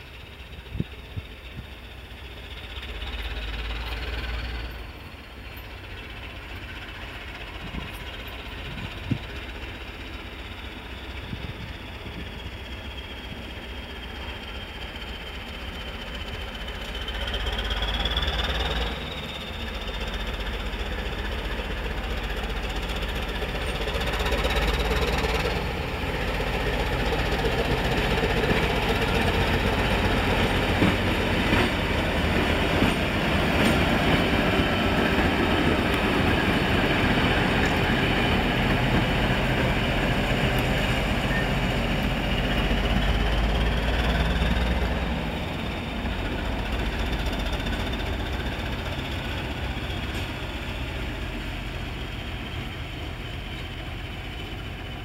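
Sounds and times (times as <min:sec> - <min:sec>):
diesel locomotive engines: 0:00.0 - 0:55.0.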